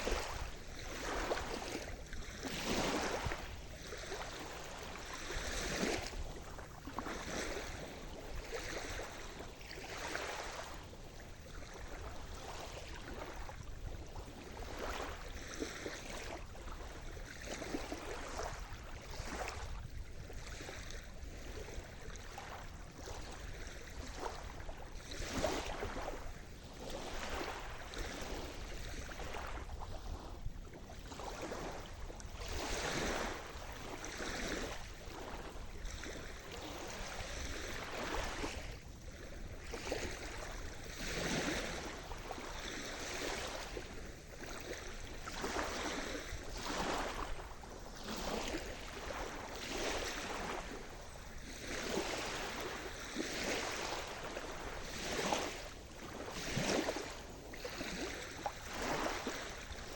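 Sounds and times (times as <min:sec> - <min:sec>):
waves breaking on shore: 0:00.0 - 0:59.9.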